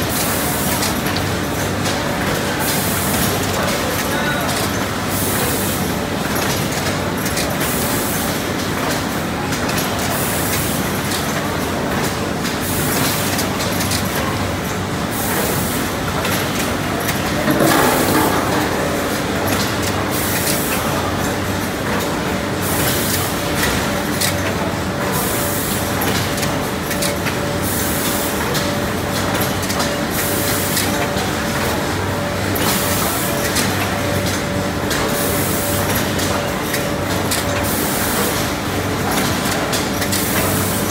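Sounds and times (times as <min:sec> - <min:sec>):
production line machinery running: 0:00.0 - 0:40.9.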